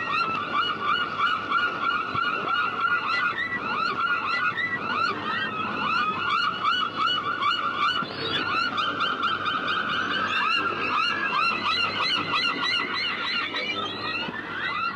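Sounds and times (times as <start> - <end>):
gulls calling: 0.0 - 14.9.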